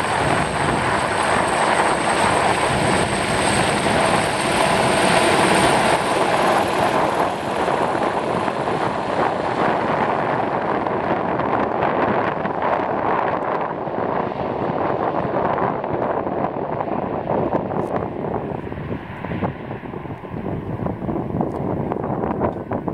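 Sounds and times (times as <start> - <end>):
helicopter rotor and engine: 0.0 - 22.9.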